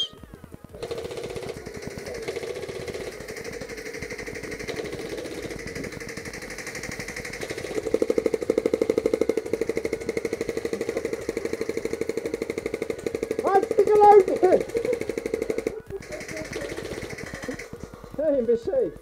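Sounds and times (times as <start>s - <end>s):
airsoft guns firing full-auto: 0.0s - 19.0s.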